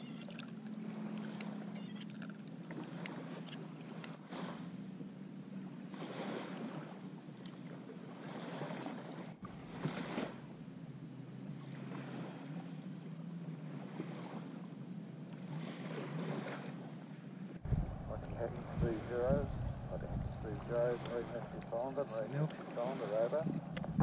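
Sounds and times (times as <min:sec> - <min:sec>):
small waves washing onto sand: 0:00.0 - 0:10.6, 0:11.4 - 0:24.0
wind: 0:00.0 - 0:24.0.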